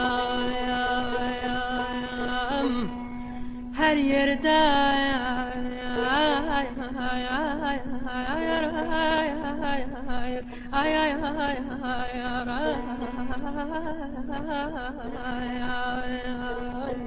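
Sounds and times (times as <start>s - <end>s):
ornamented folk melody over drone: 0.0s - 17.0s
person singing: 0.0s - 17.0s.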